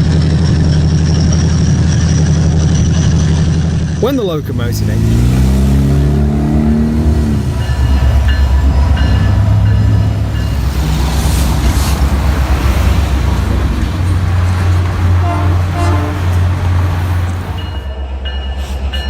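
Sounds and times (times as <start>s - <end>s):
train locomotive rumble: 0.0s - 19.0s.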